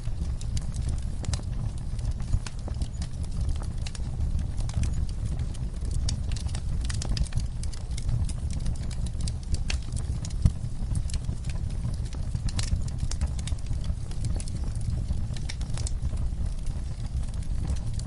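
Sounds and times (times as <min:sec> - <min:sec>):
low rumble of flames: 0:00.0 - 0:18.0
wood fire snapping and popping: 0:00.0 - 0:18.0.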